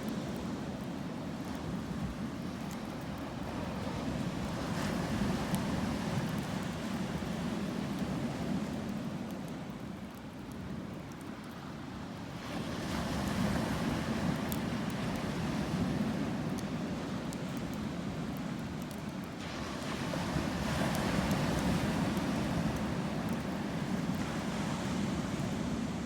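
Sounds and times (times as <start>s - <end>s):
campfire crackling: 0.0s - 26.0s
sea waves washing ashore: 0.0s - 26.0s.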